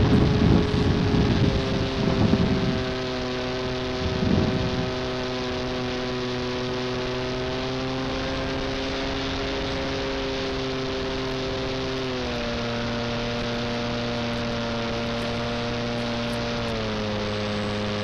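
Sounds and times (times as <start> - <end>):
model plane motor whining: 0.0 - 18.0
wind buffeting microphone: 0.0 - 18.0.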